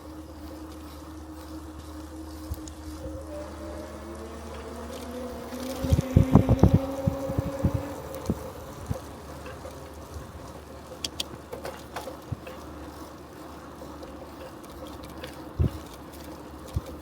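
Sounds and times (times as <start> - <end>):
bicycle rolling: 0.0 - 17.0
bike clicks and rattles: 0.0 - 17.0.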